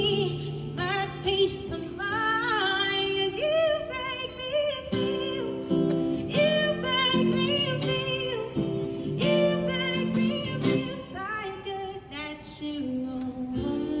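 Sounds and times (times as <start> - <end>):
acoustic guitar strumming chords: 0.0 - 11.9
person singing: 0.0 - 14.0.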